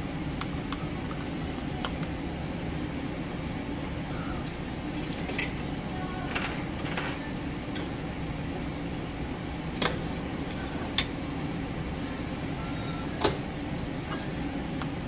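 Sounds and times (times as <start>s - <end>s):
fan hum: 0.0s - 15.0s.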